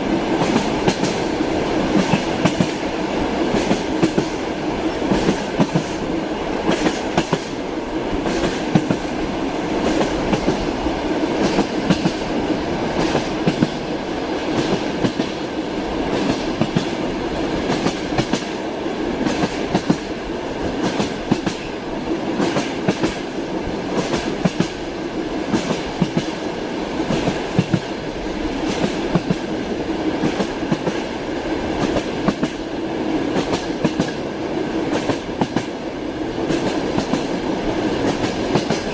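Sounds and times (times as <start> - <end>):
train carriage rumble: 0.0 - 38.9.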